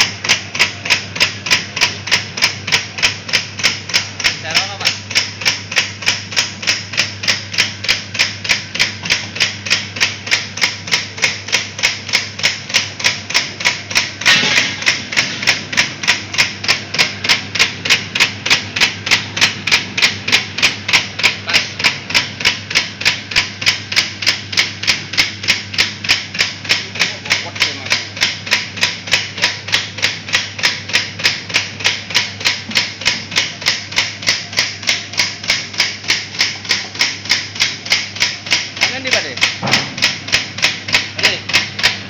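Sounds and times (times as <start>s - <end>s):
low motor hum: 0.0s - 42.0s
machine clacking: 0.0s - 42.0s.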